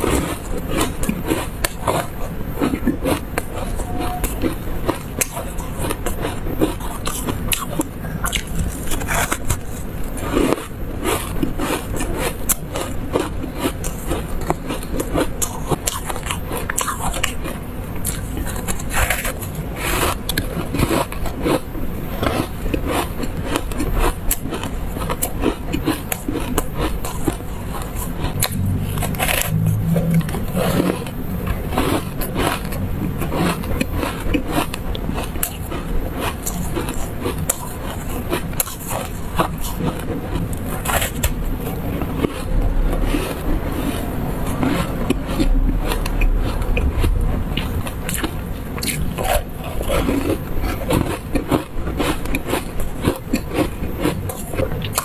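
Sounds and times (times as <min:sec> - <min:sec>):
chewing ice crunching: 0:00.0 - 0:55.0.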